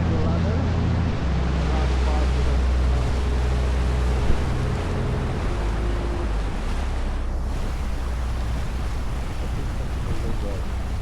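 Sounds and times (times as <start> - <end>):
low boat engine rumble: 0.0 - 11.0
water rushing past hull: 0.0 - 11.0
wind on microphone: 0.8 - 6.7, 7.4 - 11.0.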